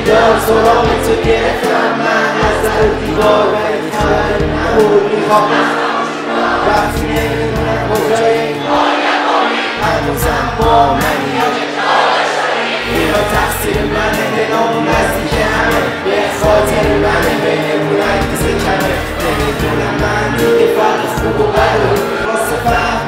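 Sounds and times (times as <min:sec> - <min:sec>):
rapping over a beat: 0:00.0 - 0:05.8, 0:06.6 - 0:08.7, 0:09.8 - 0:11.6, 0:12.9 - 0:23.0
crowd singing along: 0:00.0 - 0:23.0.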